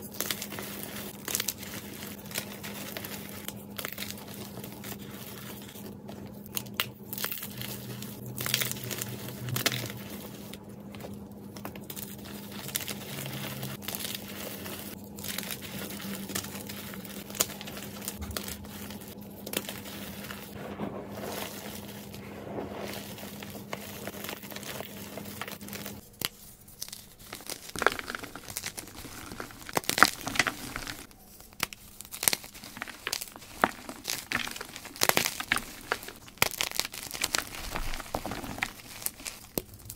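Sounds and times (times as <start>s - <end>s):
chalk crumbling and crunching: 0.0s - 39.9s.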